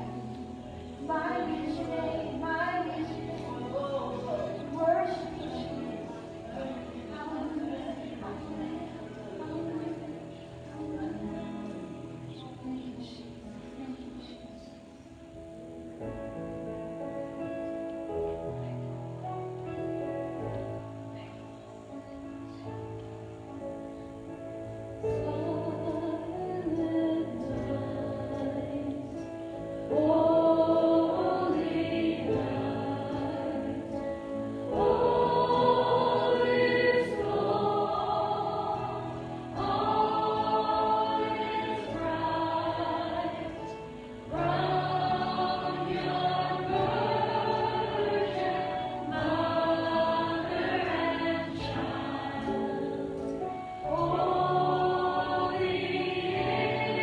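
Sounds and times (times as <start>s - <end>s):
choir singing worship song: 0.0s - 14.8s, 24.7s - 57.0s.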